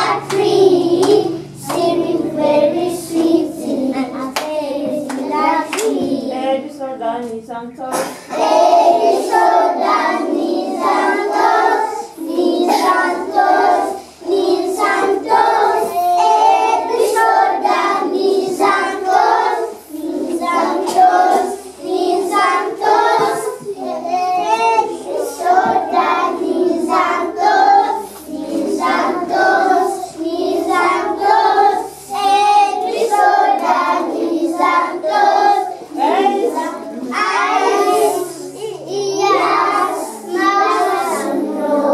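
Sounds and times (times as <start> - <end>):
children singing in unison: 0.0 - 6.4, 7.9 - 41.9.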